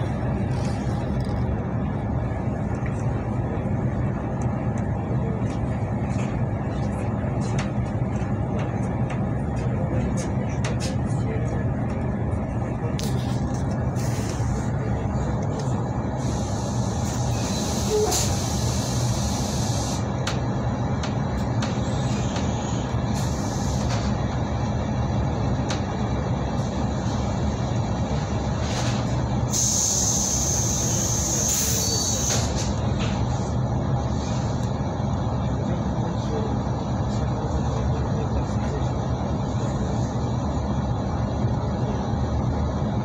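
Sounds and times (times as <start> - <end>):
train wheels rumbling on track: 0.0 - 43.0.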